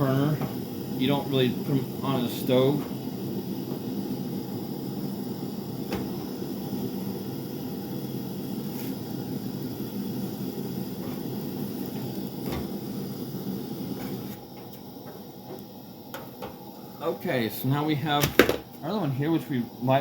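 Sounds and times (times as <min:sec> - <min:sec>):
stove burner flame rushing: 0:00.0 - 0:20.0.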